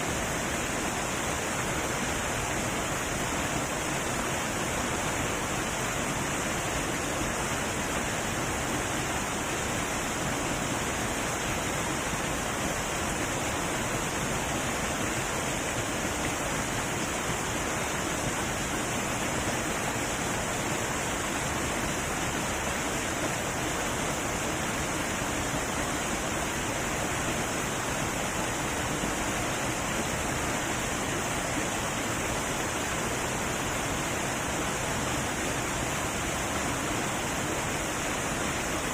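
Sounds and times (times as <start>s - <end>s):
heavy waterfall rushing: 0.0s - 38.9s.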